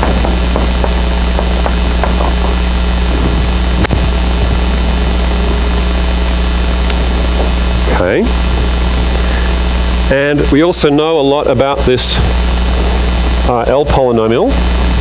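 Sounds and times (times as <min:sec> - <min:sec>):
electrical mains hum with hiss: 0:00.0 - 0:15.0.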